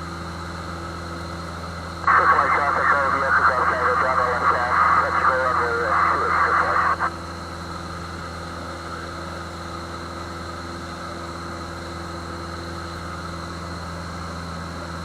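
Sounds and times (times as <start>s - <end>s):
airplane engine and propeller drone: 0.0s - 15.0s.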